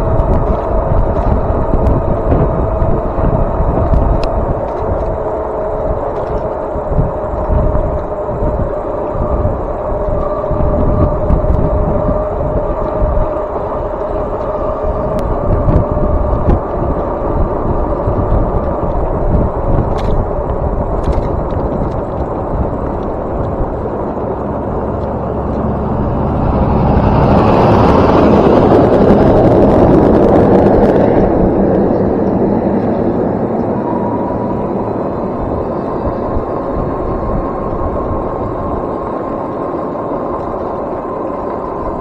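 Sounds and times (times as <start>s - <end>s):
rush of noise: 0.0s - 42.0s
steady whine: 0.0s - 42.0s
wind buffeting microphone: 0.0s - 42.0s.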